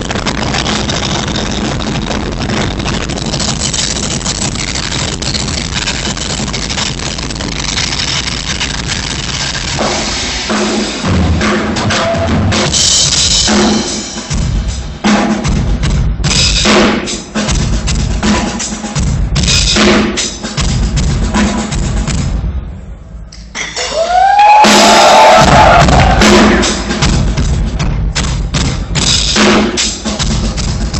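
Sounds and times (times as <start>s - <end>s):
bass drum: 0.0s - 22.7s, 24.4s - 30.9s.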